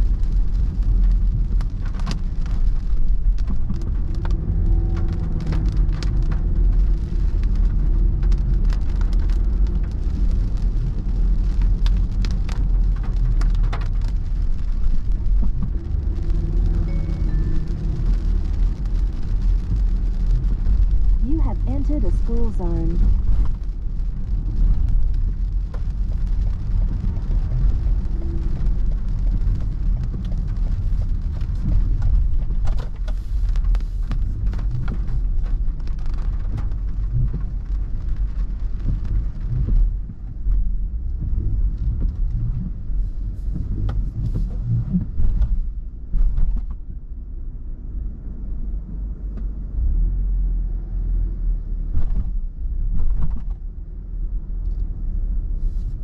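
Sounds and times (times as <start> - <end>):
rain and wet road hiss: 0.0 - 46.8, 54.6 - 56.0
car interior rumble: 0.0 - 56.0.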